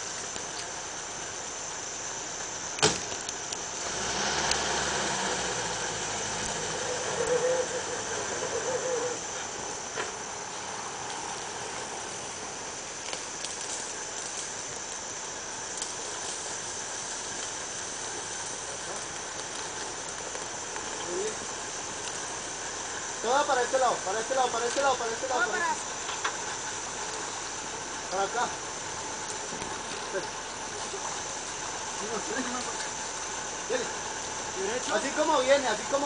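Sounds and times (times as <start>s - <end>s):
high insect buzz: 0.0s - 36.0s
truck engine running slowly: 0.0s - 36.0s.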